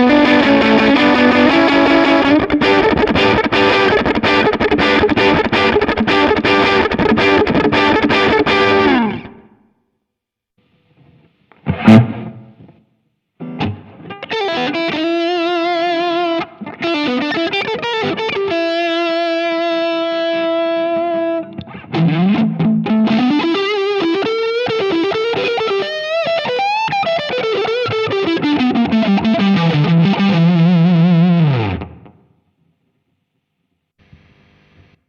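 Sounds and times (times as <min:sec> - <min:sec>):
distorted electric guitar lead: 0:00.0 - 0:09.6, 0:11.0 - 0:12.8, 0:13.4 - 0:32.2.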